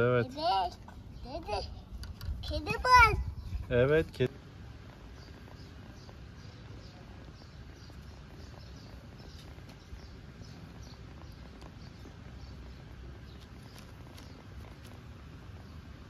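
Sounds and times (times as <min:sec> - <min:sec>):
steady low rumble: 0:00.8 - 0:16.0.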